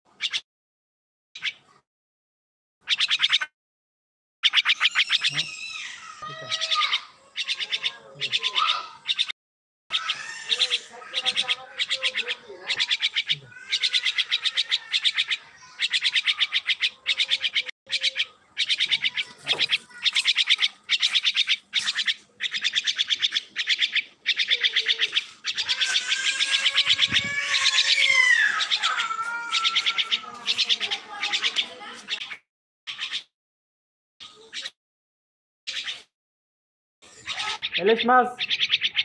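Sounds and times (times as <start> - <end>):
bird chattering trills: 0.1 - 0.4, 2.8 - 3.5, 4.4 - 9.3, 9.9 - 33.3, 35.7 - 36.1, 37.0 - 39.0.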